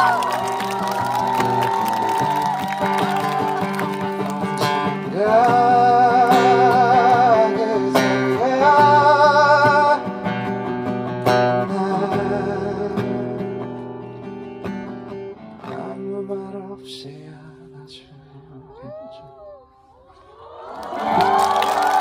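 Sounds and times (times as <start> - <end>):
acoustic guitar: 0.0 - 19.2.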